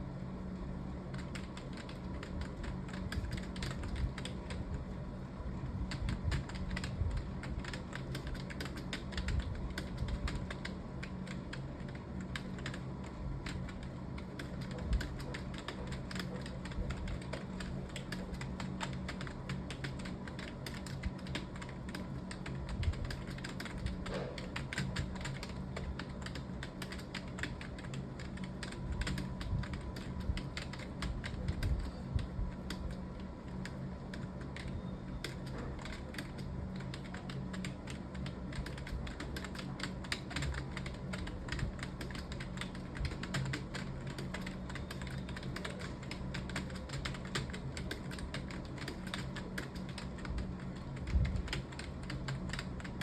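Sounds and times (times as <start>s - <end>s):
low steady hum: 0.0s - 53.0s
fast typing on keyboard: 1.0s - 53.0s.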